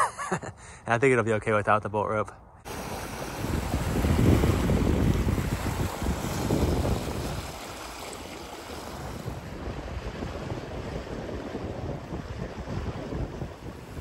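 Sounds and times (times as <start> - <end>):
rush of wind and water: 2.6 - 14.0
wind buffeting microphone: 2.6 - 14.0.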